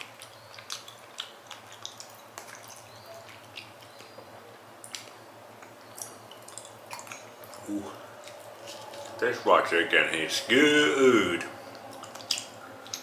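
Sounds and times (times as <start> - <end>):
mouth chewing with wet clicks: 0.0 - 9.4, 11.4 - 13.0.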